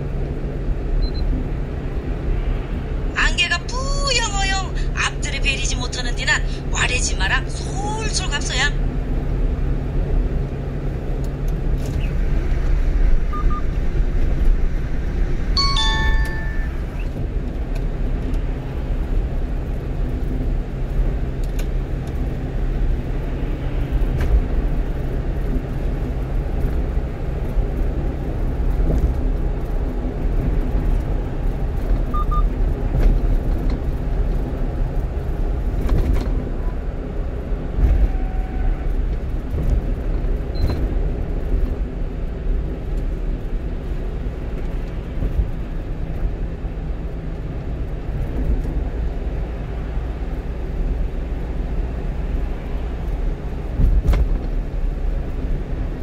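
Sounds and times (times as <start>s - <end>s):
road and tyre rumble: 0.0s - 56.0s
truck engine hum: 0.0s - 56.0s.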